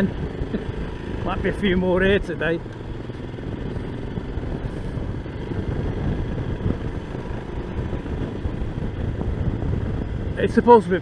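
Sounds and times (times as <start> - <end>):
motorcycle engine: 0.0 - 11.0
wind rush on microphone: 0.0 - 11.0.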